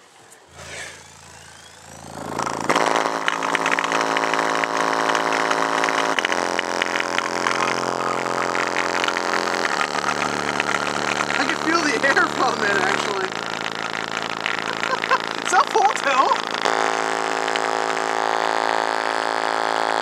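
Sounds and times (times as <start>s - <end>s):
car speaker buzzing with distortion: 0.0s - 20.0s
steady bass tone: 0.4s - 20.0s.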